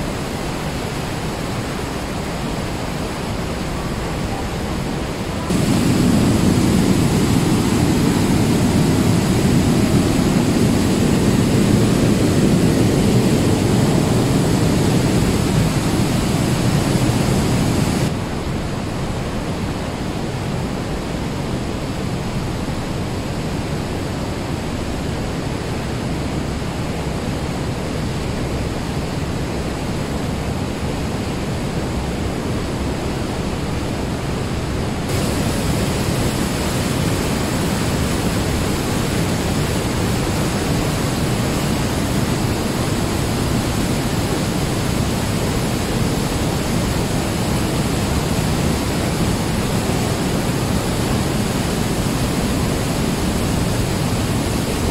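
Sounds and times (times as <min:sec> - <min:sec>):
mountain stream rushing: 0:00.0 - 0:54.9.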